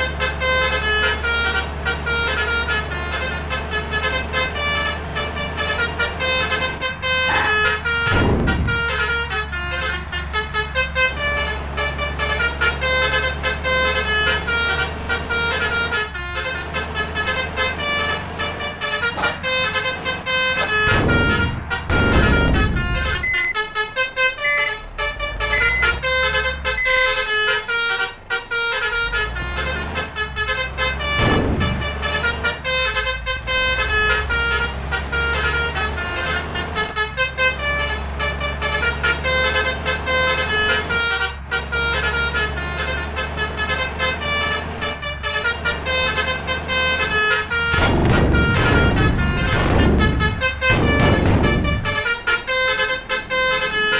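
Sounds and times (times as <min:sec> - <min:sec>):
bus engine humming: 0:00.0 - 0:53.9
multi-tone bus horn melody: 0:00.0 - 0:53.9.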